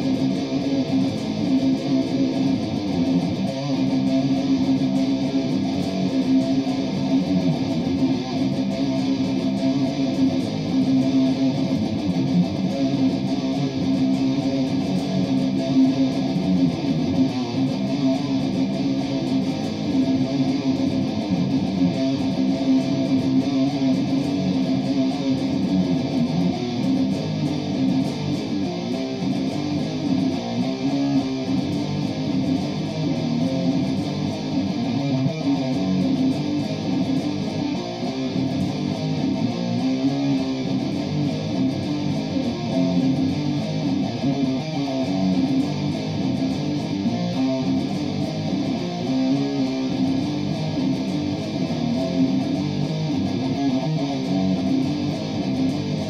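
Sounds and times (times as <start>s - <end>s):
solo guitar plucked notes: 0.0s - 56.0s.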